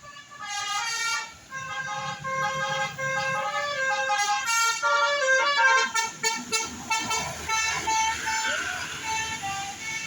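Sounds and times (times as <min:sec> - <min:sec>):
musical air horn: 0:00.0 - 0:10.0.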